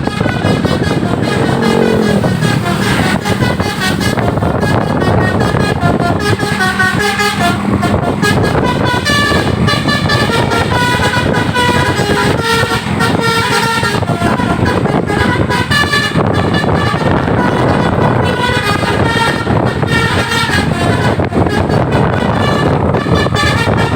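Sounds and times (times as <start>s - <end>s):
bus horn playing a tune: 0.0s - 23.9s
engine and road noise: 0.0s - 23.9s.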